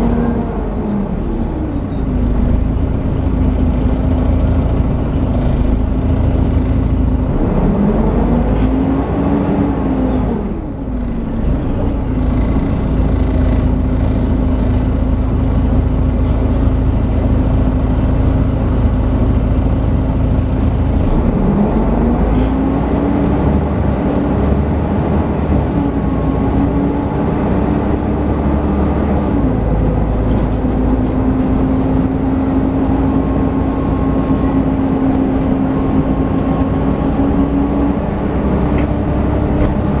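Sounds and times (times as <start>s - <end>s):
bus engine whining: 0.0s - 40.0s.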